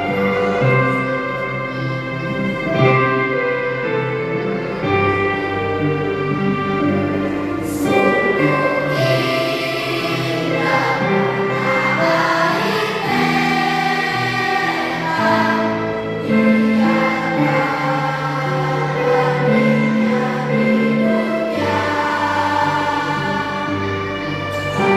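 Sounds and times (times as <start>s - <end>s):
children's choir singing: 0.0s - 24.9s
music accompaniment: 0.0s - 24.9s.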